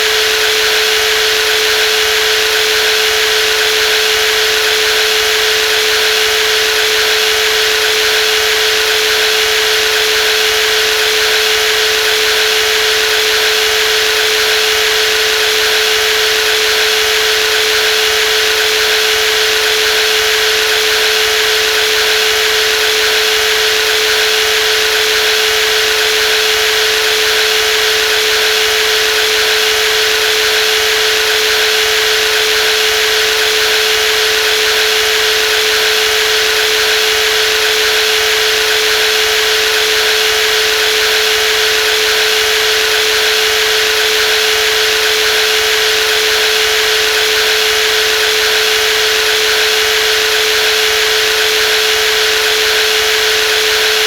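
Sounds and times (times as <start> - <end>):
jigsaw running: 0.0 - 54.0.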